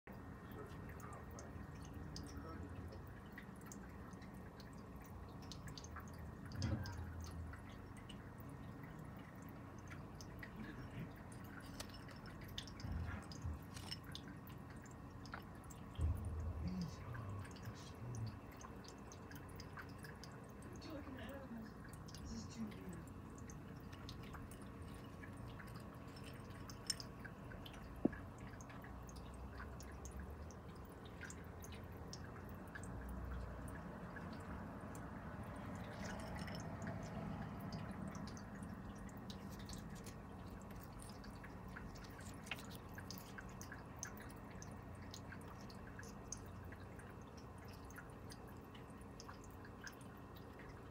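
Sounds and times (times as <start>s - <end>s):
low steady hum: 0.1s - 50.9s
water ticks and drips: 0.1s - 50.9s.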